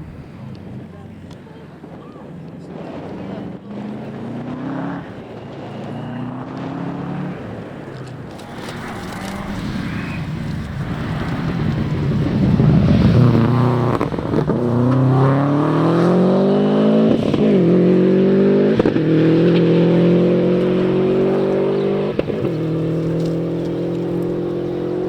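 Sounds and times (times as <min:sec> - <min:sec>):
rally car engine accelerating: 0:02.6 - 0:25.0.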